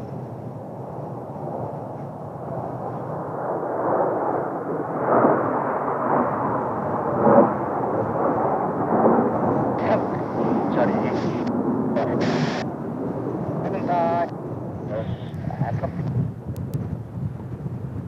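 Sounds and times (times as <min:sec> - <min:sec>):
jet engines roaring: 0:00.0 - 0:17.6.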